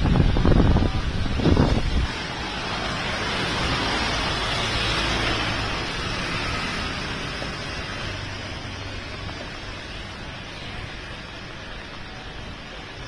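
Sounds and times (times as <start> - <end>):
low engine rumble: 0.0 - 13.0
rain and tyres hissing on water: 0.0 - 13.0.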